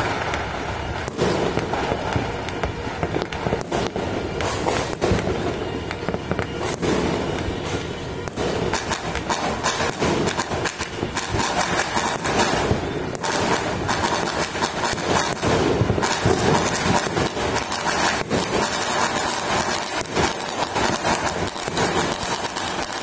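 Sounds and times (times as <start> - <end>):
distant fireworks popping: 0.0 - 23.0
sharp firework bangs: 0.0 - 23.0.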